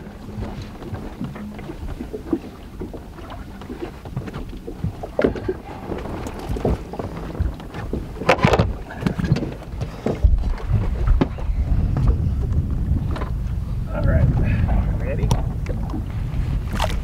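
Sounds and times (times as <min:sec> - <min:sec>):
water splashing: 0:00.0 - 0:11.4, 0:14.5 - 0:17.0
wood knocking against boat: 0:00.0 - 0:13.5, 0:14.2 - 0:17.0
wind rumbling on microphone: 0:00.0 - 0:17.0.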